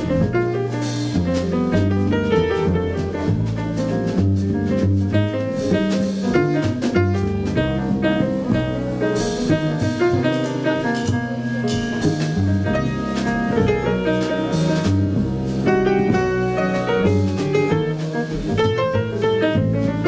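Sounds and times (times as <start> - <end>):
drum kit cymbals: 0.0 - 2.0, 2.6 - 18.6
grand piano: 0.0 - 20.0
plucked double bass: 0.0 - 20.0.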